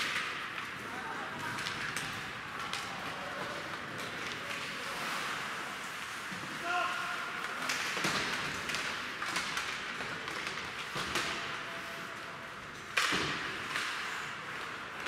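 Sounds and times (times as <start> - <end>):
hockey sticks and puck clacking: 0.0 - 15.0
skates on ice: 0.0 - 15.0.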